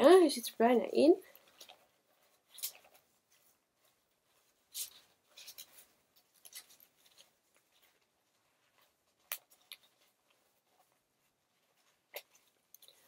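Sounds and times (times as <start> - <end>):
scratchy rustling: 1.2 - 13.0.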